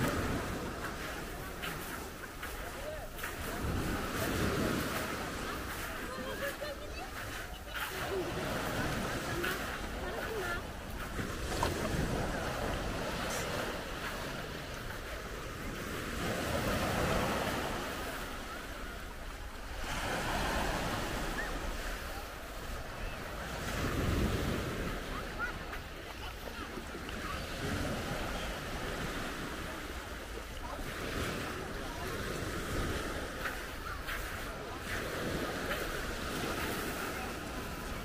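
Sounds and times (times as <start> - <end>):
small waves breaking on rocks: 0.0 - 38.0.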